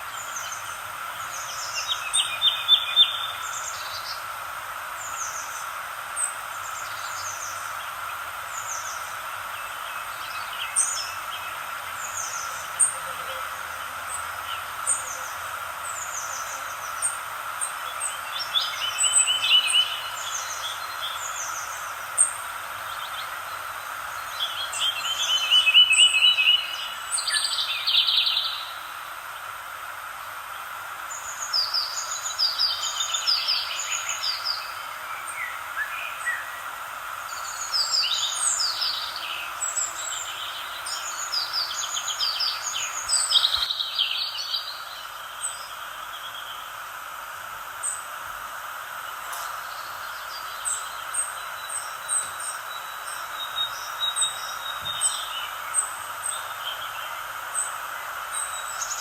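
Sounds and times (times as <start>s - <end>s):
songbirds singing and chirping: 0.0s - 59.0s
steady hiss: 0.0s - 59.0s.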